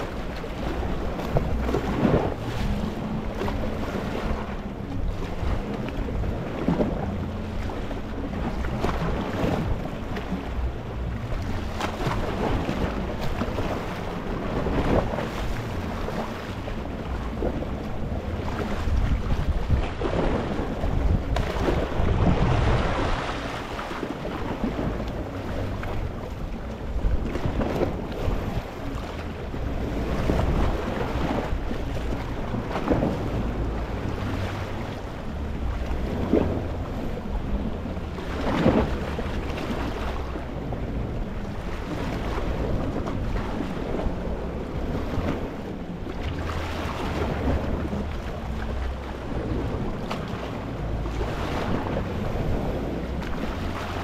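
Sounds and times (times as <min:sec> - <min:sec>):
waves washing over rocks: 0:00.0 - 0:54.0
wind rumble on microphone: 0:00.0 - 0:54.0.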